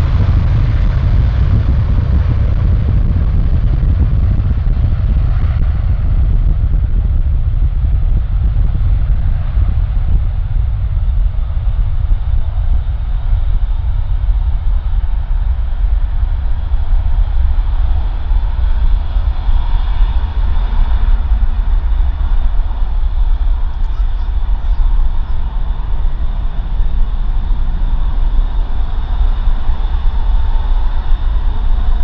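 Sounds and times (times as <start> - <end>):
jet engine whine: 0.0 - 32.0
jet engines rumbling: 0.0 - 32.0.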